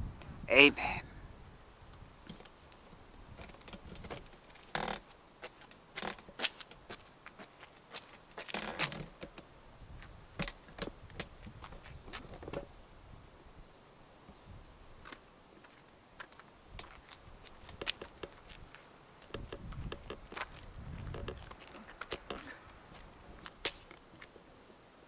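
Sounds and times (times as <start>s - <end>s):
faint clicks and rustles: 1.9s - 12.7s, 14.2s - 24.8s.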